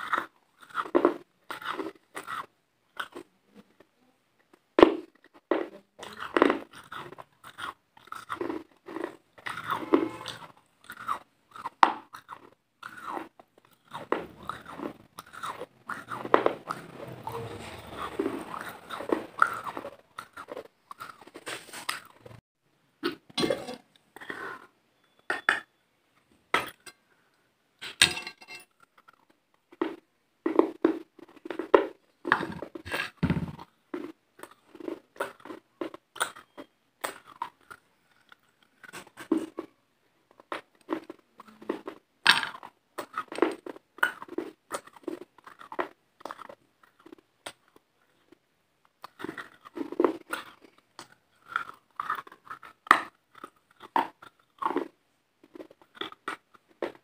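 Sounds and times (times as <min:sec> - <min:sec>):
chewing and crunching: 0:00.0 - 0:22.4, 0:28.7 - 0:57.0.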